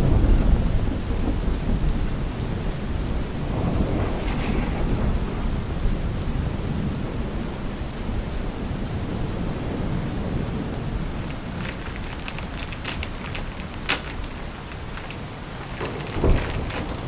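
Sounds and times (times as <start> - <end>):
thunder rumbling: 0.0 - 7.2, 9.8 - 17.0
steady rain: 0.0 - 17.0.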